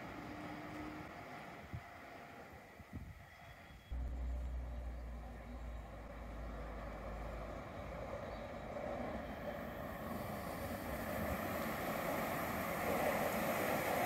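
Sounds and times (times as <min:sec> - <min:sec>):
tram running on track: 0:00.0 - 0:14.0.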